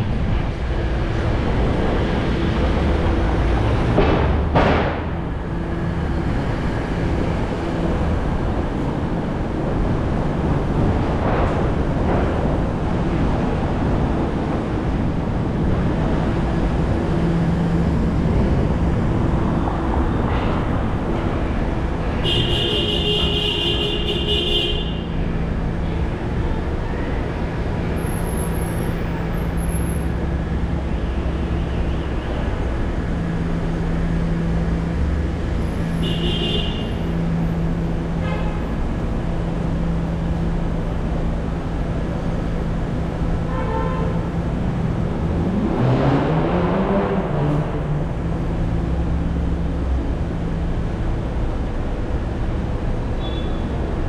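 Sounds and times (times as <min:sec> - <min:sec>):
road and traffic rumble: 0:00.0 - 0:54.0.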